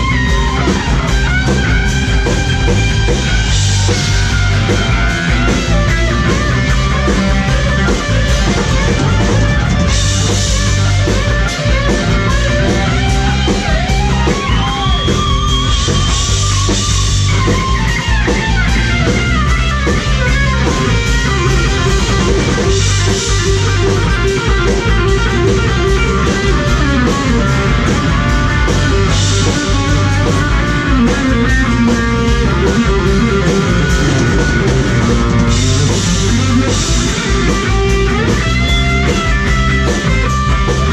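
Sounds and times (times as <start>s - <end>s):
drums and bass: 0.0s - 40.9s
electric guitar lead: 0.0s - 40.9s.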